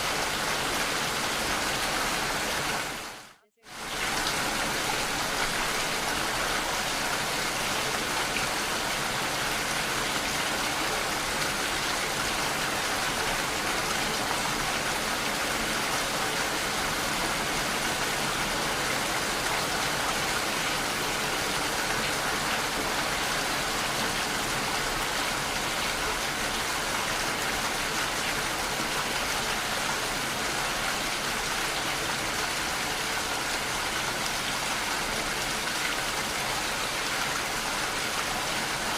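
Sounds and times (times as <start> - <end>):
steady rain-like hiss: 0.0 - 38.9.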